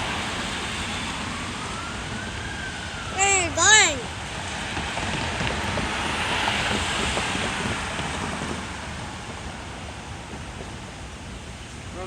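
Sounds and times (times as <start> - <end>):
vehicle passing on street: 0.0 - 11.2.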